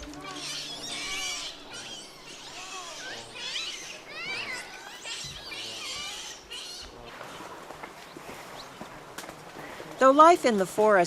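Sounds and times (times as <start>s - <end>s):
birds singing: 0.0s - 9.0s.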